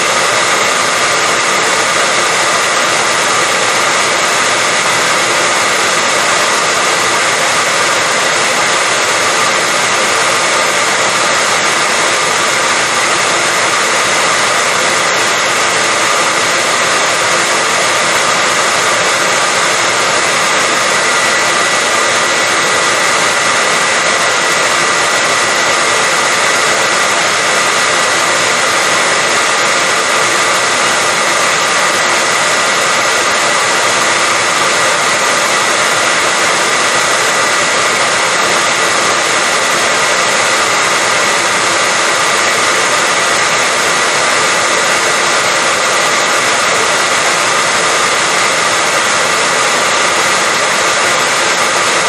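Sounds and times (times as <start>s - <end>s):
hair dryer blowing air: 0.0s - 52.0s
hair dryer motor whine: 0.0s - 52.0s.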